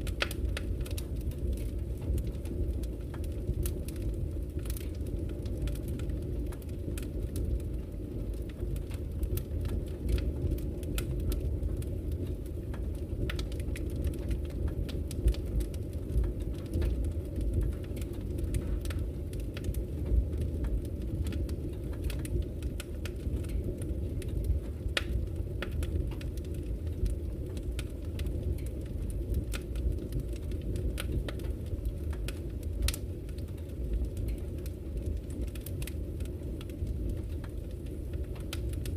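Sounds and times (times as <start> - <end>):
fire flames rumbling: 0.0 - 38.9
logs crackling and popping: 0.0 - 38.9.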